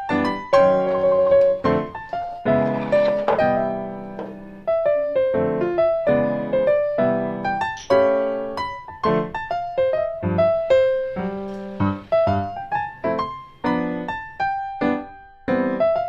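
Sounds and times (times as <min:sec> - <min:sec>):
slow solo piano melody: 0:00.0 - 0:16.0.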